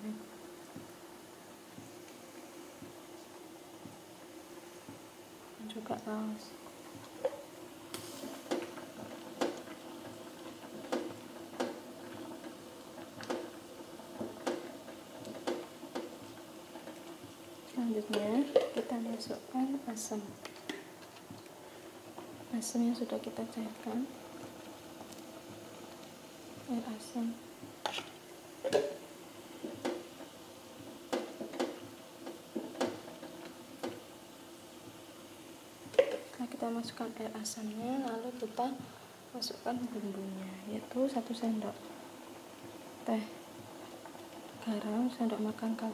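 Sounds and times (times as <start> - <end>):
soup boiling on gas stove: 0.0 - 45.9.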